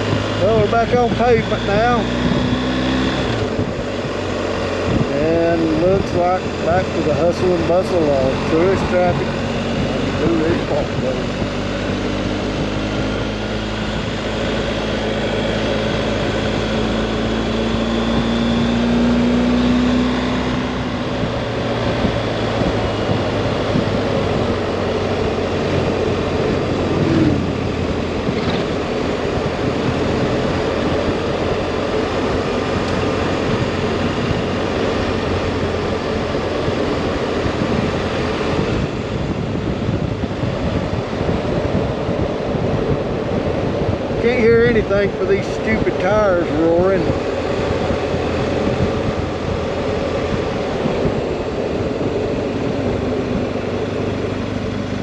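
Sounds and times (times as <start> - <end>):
motorcycle engine accelerating: 0.0 - 55.0
tires roaring on pavement: 0.0 - 55.0.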